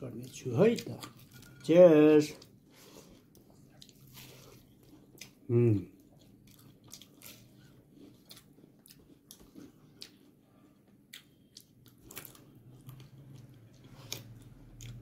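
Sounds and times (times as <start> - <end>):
person chewing: 2.4 - 15.0.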